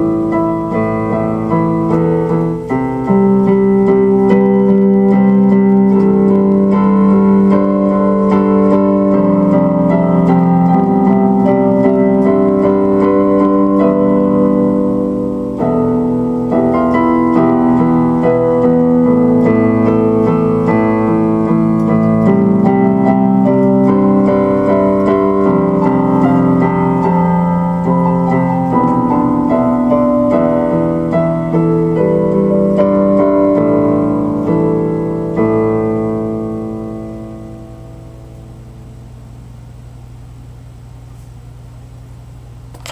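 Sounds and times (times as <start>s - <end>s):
piano music: 0.0s - 39.6s.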